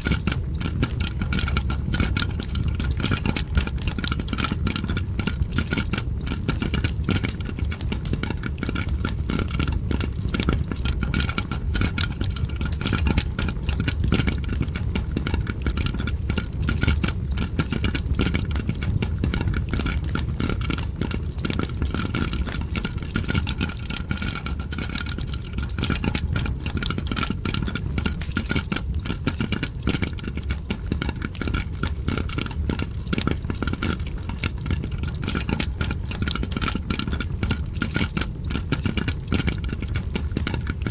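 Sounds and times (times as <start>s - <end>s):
crackling fire: 0.0s - 40.9s
popcorn popping: 0.0s - 40.9s.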